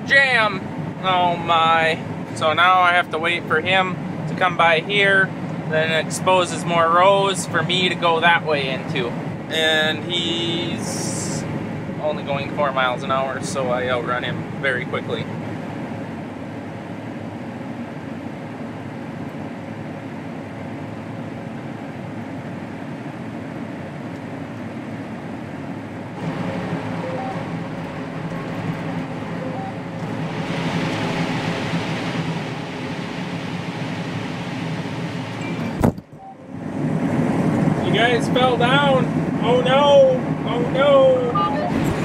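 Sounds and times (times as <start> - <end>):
combine harvester drone: 0.0 - 42.0.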